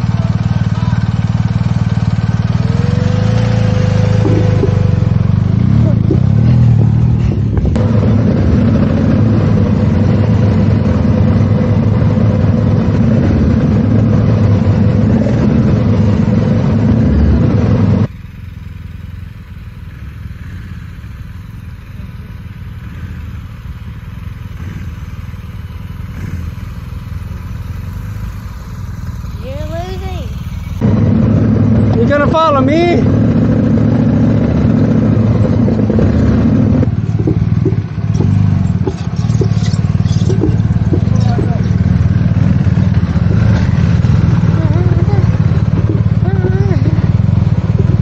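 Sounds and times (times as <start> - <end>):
motorcycle engines running: 0.0 - 48.0
motorcycles idling: 0.0 - 48.0.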